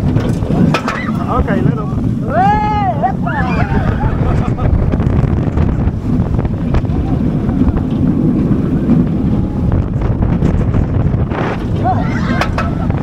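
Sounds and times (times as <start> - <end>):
roller coaster rumbling on track: 0.0 - 13.0
wind rushing over microphone: 0.0 - 13.0.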